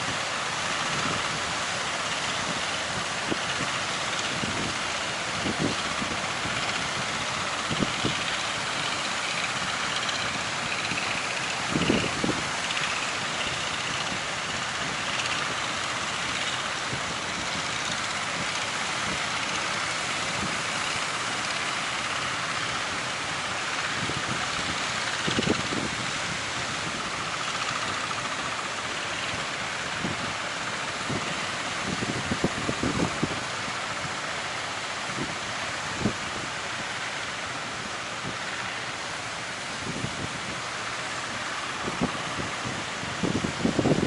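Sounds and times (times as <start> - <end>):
wind buffeting microphone: 0.0 - 37.1, 37.8 - 44.0
ocean surf: 0.0 - 44.0
wind: 0.0 - 44.0.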